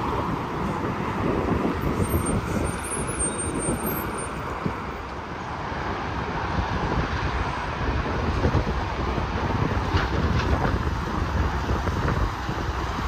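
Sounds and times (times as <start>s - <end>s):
highway traffic road noise: 0.0s - 13.0s.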